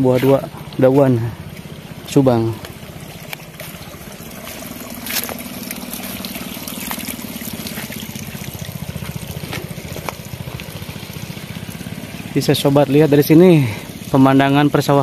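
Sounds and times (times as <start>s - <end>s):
steady low hum: 0.0s - 15.0s
water running and trickling: 0.0s - 15.0s.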